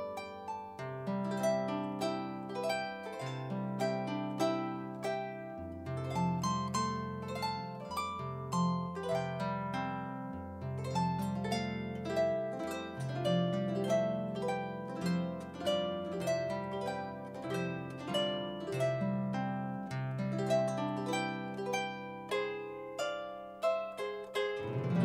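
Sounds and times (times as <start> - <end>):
harp playing slow piece: 0.0 - 25.0.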